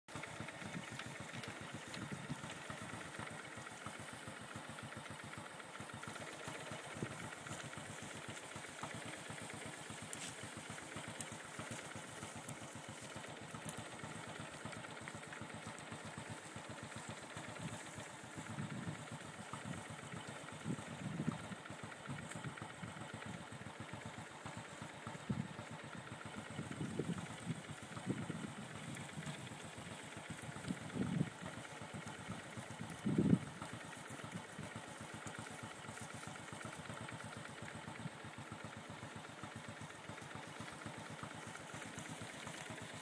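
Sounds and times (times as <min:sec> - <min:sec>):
engine idling: 0:00.0 - 0:43.0.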